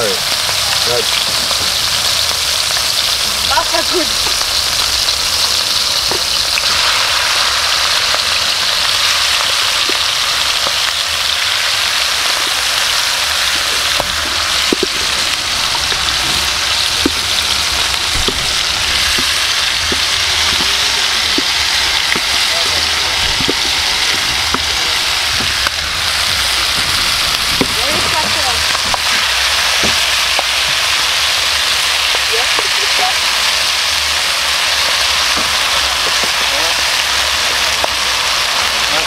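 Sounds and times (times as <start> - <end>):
food sizzling in hot oil: 0.0 - 39.0
oil popping and crackling: 0.0 - 39.0.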